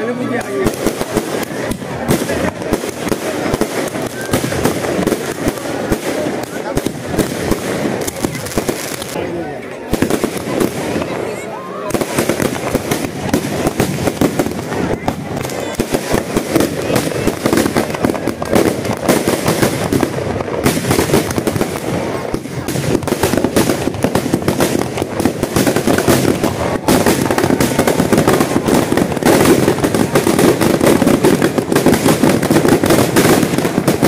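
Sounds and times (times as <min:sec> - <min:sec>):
firecrackers crackling: 0:00.0 - 0:34.0.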